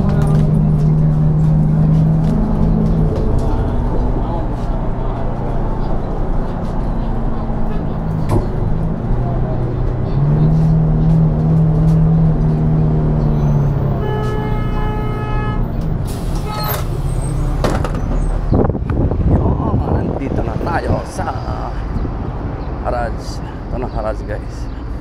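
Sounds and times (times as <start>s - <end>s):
bus engine rumble: 0.0s - 25.0s.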